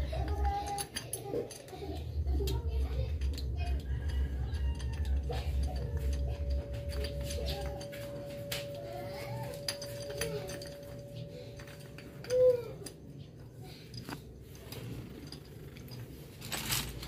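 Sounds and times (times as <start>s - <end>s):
metal parts clicking and clinking: 0.0s - 17.0s
low hum: 1.9s - 17.0s.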